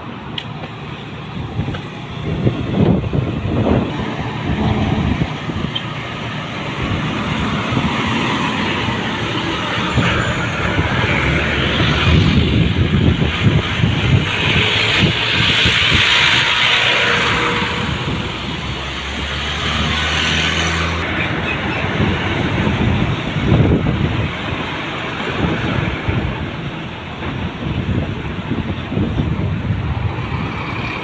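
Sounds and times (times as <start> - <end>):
heavy vehicles passing at speed: 0.0 - 31.0.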